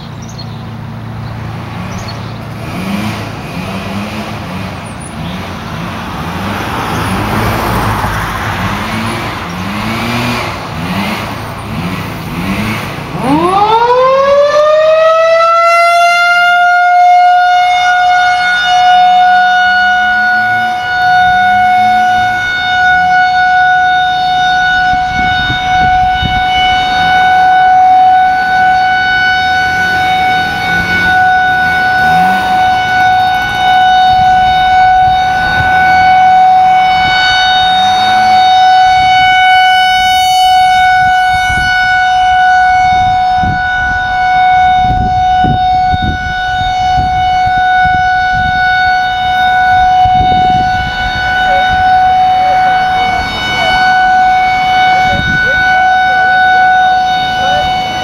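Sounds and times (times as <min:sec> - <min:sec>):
tornado warning siren wailing: 0:00.0 - 0:58.0.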